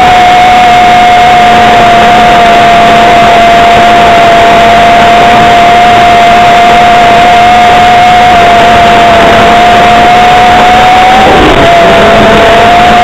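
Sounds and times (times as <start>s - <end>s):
model aeroplane engine buzzing: 0.0s - 13.0s
wind rush: 0.0s - 13.0s.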